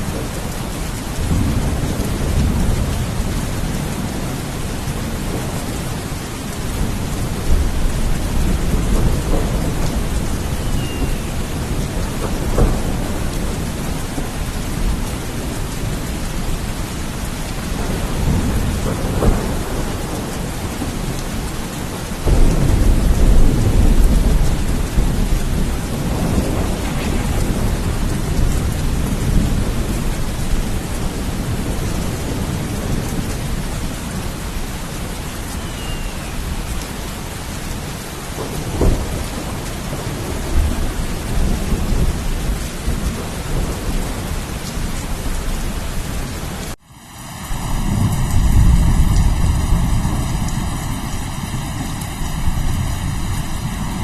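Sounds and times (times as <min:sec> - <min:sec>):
low rumbling thunder: 0:00.0 - 0:46.7, 0:47.6 - 0:54.0
steady rain falling: 0:00.0 - 0:54.0.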